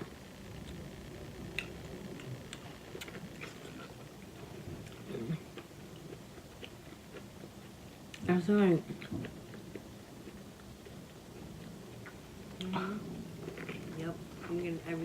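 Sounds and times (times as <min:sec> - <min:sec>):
soft chewing: 0:00.5 - 0:15.0.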